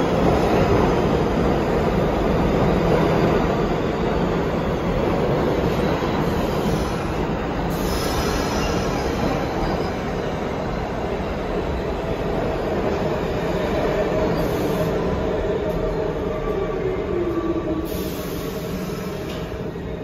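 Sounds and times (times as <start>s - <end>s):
subway train rumbling: 0.0s - 20.0s.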